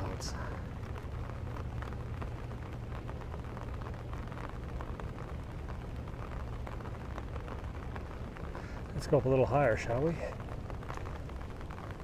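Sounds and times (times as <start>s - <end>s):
low rumble: 0.0s - 12.0s
rain pattering on umbrella: 0.0s - 12.0s.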